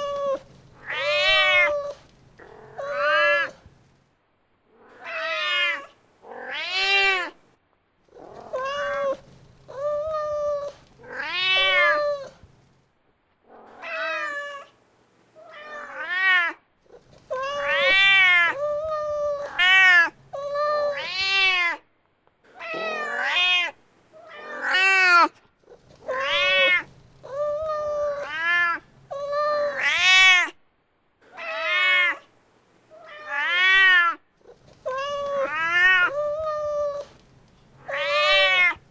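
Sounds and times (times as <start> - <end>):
cat meowing: 0.0 - 3.7, 4.9 - 7.4, 8.1 - 12.5, 13.7 - 14.8, 15.4 - 21.8, 22.6 - 30.6, 31.3 - 32.3, 33.0 - 37.2, 37.8 - 38.9.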